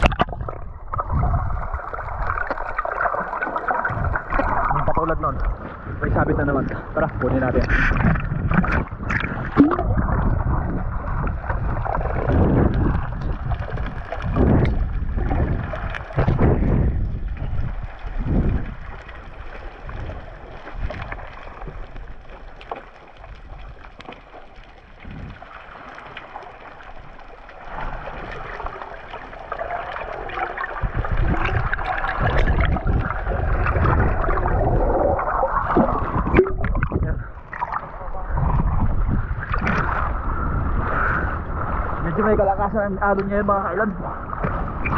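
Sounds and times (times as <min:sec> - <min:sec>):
muffled underwater noise: 0:00.0 - 0:21.9, 0:25.9 - 0:44.9
bubbling and sloshing water: 0:00.0 - 0:44.9.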